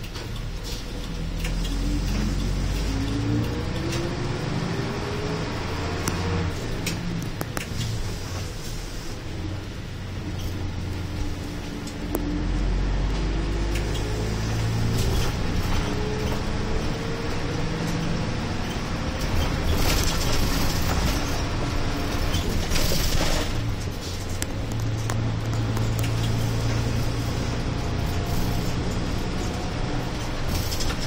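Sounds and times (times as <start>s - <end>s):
bus engine: 0.0s - 31.0s.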